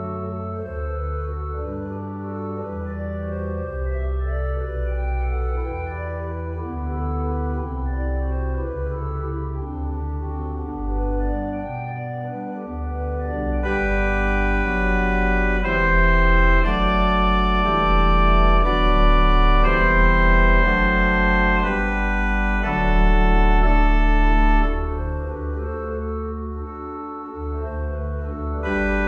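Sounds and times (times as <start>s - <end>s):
organ chords: 0.0s - 29.0s.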